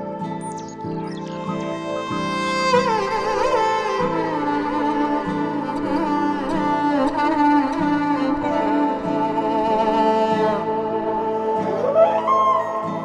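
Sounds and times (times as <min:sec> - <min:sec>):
bowed strings music: 0:00.0 - 0:13.0.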